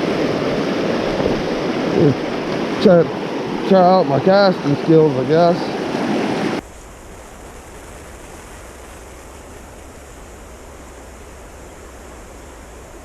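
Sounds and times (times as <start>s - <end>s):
creek current rushing: 0.0s - 13.0s.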